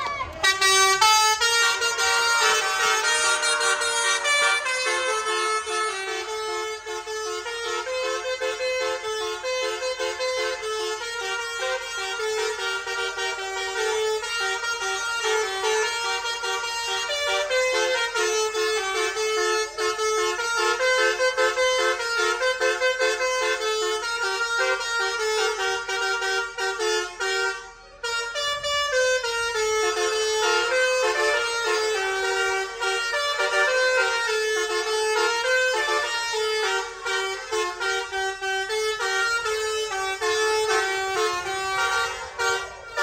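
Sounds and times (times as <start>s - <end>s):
multi-tone horn keyboard tune: 0.3s - 43.0s.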